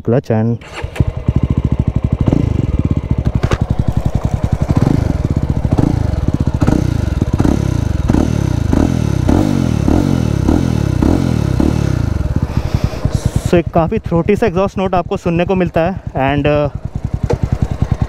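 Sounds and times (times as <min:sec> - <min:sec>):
motorcycle engine revving: 0:00.6 - 0:18.0.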